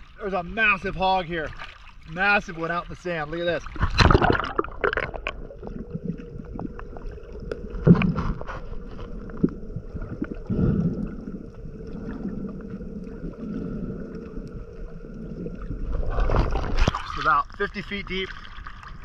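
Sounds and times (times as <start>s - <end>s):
faint steady hum: 0.0s - 19.0s
muffled underwater rush: 0.0s - 19.0s
water swishing: 0.0s - 19.0s.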